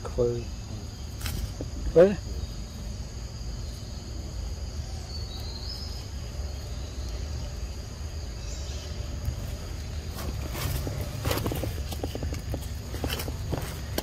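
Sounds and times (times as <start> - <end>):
insect chorus ringing tones: 0.0 - 14.0.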